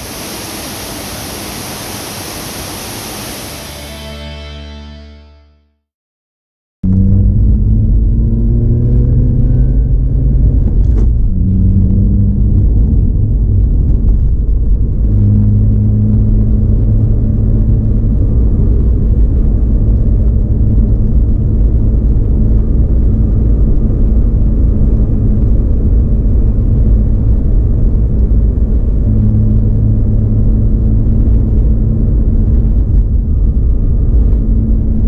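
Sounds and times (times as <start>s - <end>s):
road noise: 0.0s - 5.2s, 6.8s - 35.0s
car engine rumble: 6.8s - 35.0s.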